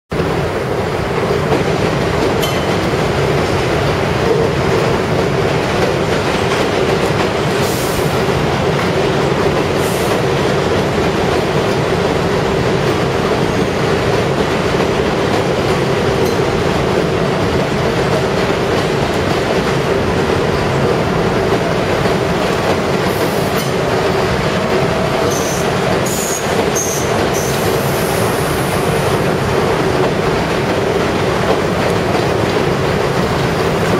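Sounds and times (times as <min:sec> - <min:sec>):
train wheels rumbling on rails: 0:00.1 - 0:33.9
sharp clicks of train wheels: 0:00.2 - 0:33.9.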